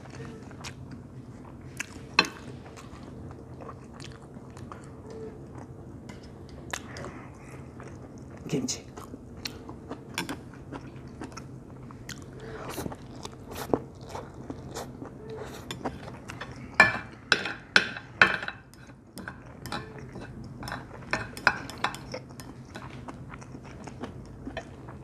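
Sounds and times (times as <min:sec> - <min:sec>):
chewing noodles: 0:00.0 - 0:17.3, 0:18.8 - 0:25.0.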